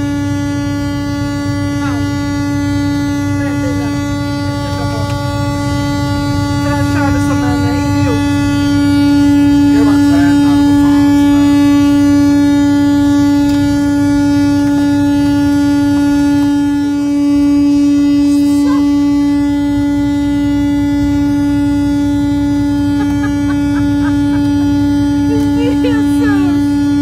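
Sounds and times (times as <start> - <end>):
truck horn blaring: 0.0 - 27.0
truck rumble: 0.0 - 27.0.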